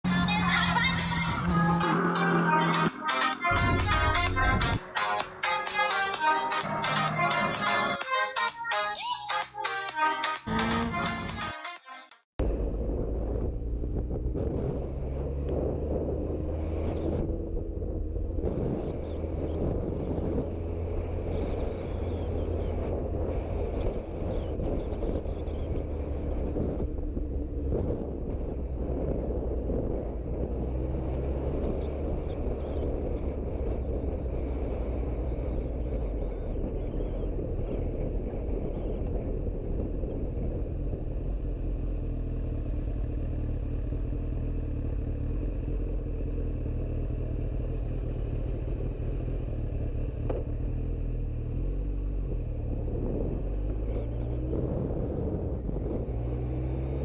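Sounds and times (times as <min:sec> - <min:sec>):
motorcycle engine running: 0:00.0 - 0:05.4, 0:12.4 - 0:57.0
road and wind noise: 0:00.0 - 0:08.0, 0:12.4 - 0:57.0.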